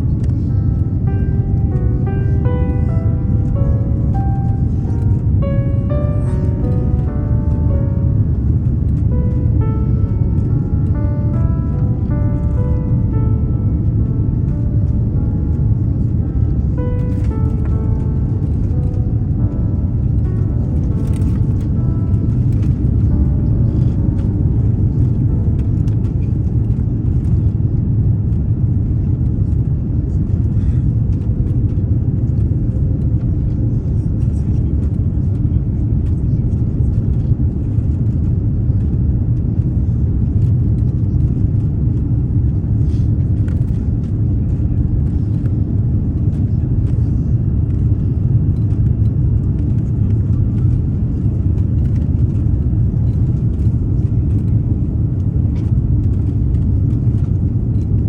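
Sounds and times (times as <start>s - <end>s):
vehicle interior rumble: 0.0s - 58.0s.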